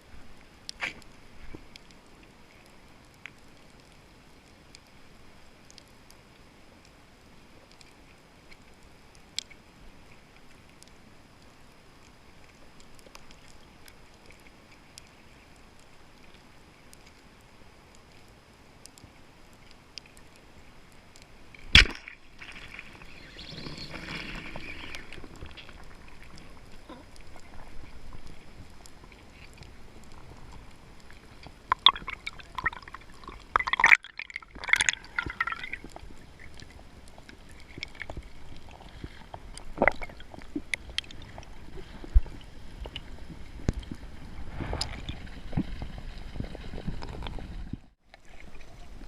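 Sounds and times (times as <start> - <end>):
small underwater clicks: 0.2 - 49.0.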